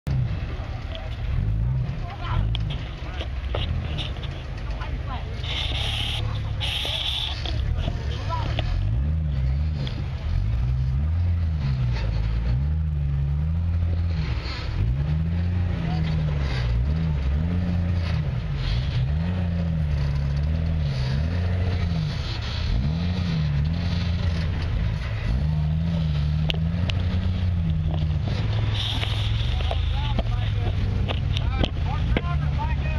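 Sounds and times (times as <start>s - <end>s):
off-road vehicle engine revving: 0.0s - 32.9s.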